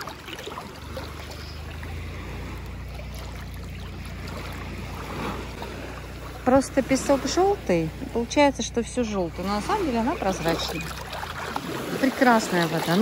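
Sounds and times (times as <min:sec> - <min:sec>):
motorboat engine running: 0:00.0 - 0:13.0
shallow sea water washing: 0:00.0 - 0:13.0.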